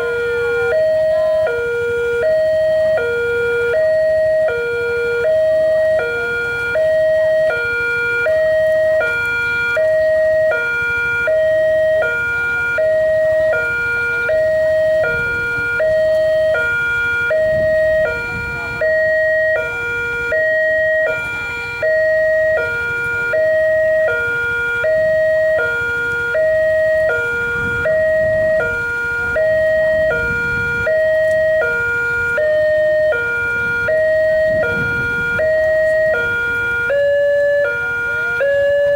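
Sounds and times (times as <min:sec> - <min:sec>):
two-tone crossing warning siren: 0:00.0 - 0:38.9.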